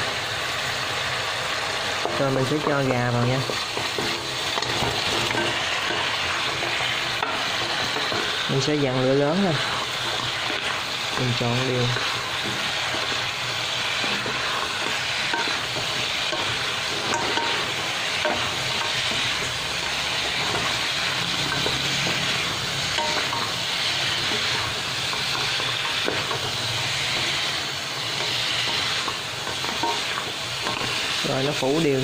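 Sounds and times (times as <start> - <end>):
chicken sizzling in a wok: 0.0 - 32.0
wooden spatula stirring: 1.9 - 32.0.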